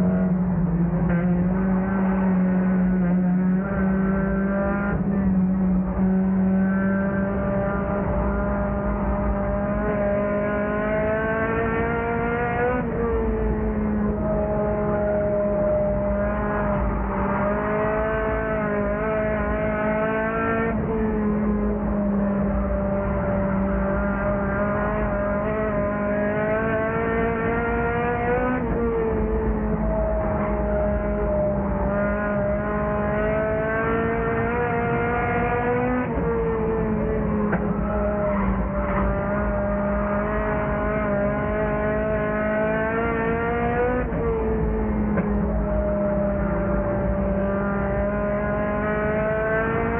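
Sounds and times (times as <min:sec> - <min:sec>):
race car engine running hard: 0:00.0 - 0:49.9.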